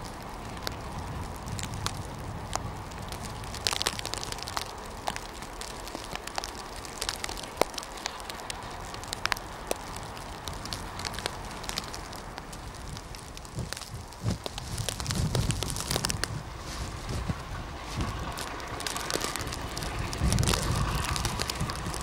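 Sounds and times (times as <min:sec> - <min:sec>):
crackling and sharp clicks: 0:00.0 - 0:22.0
faint low rumble: 0:00.0 - 0:22.0.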